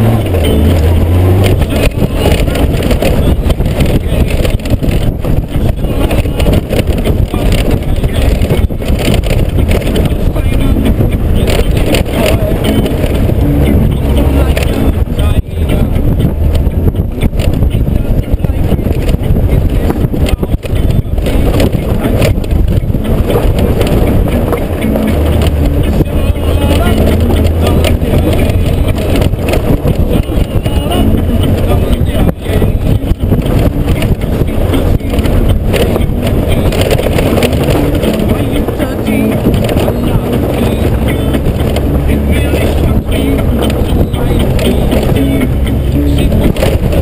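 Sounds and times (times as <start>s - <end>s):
motorcycle engine: 0.0s - 47.0s
tyres rumbling on loose stones: 0.0s - 47.0s
wind buffeting microphone: 0.0s - 47.0s.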